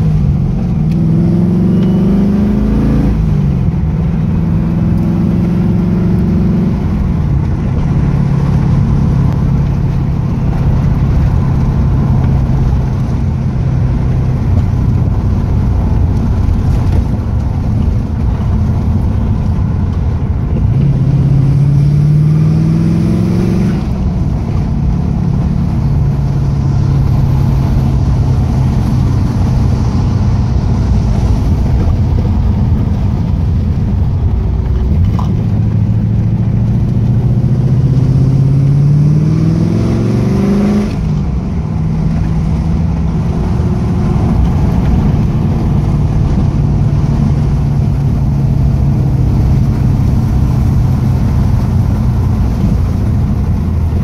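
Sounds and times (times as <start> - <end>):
car engine revving and shifting: 0.0 - 54.0
road rumble: 0.0 - 54.0.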